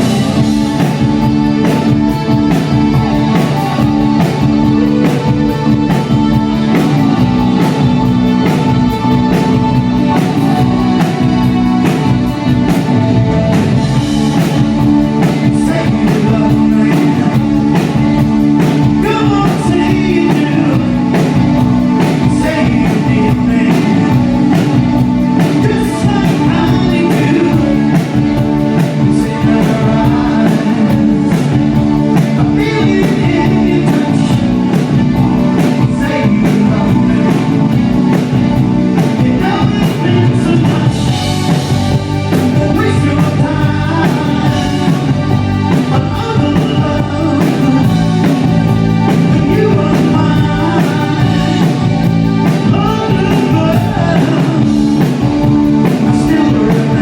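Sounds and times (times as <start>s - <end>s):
electric guitar: 0.0s - 57.0s
person singing: 0.0s - 57.0s
steady drum beat: 0.0s - 57.0s.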